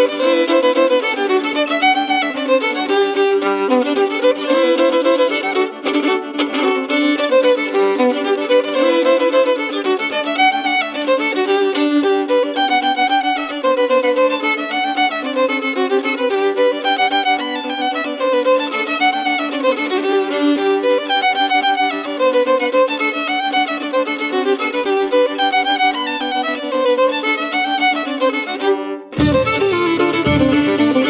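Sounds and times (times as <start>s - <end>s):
fiddle playing folk dance tune: 0.0s - 31.0s.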